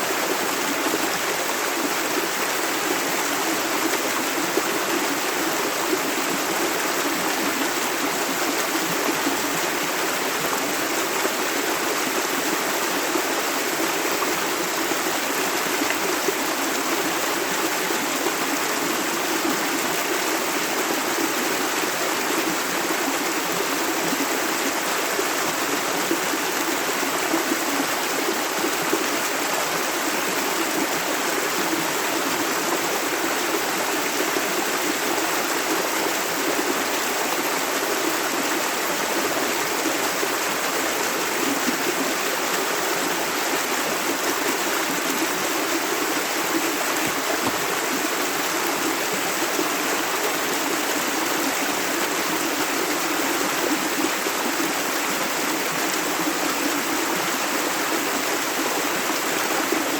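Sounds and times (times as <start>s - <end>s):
river water rippling: 0.0s - 59.9s.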